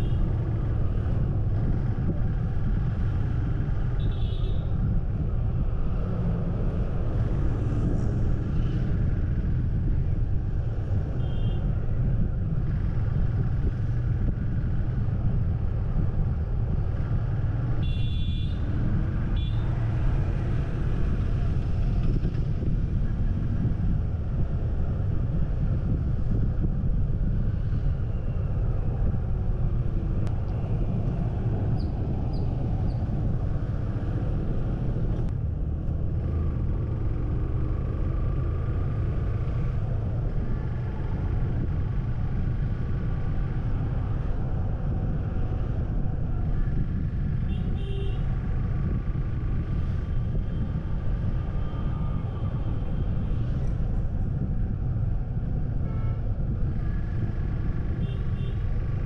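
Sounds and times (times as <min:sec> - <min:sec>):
vehicle road and wind rumble: 0:00.0 - 0:59.0.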